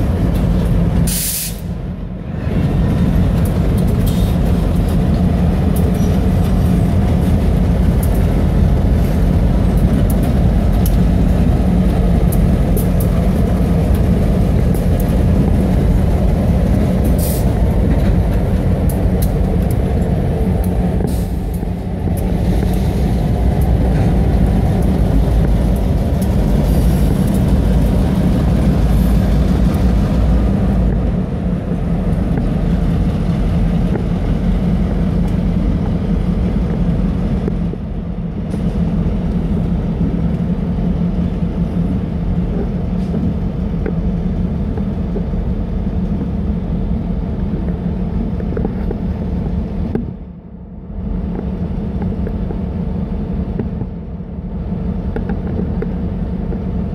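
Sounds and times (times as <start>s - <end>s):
diesel locomotive engine drone: 0.0s - 56.9s.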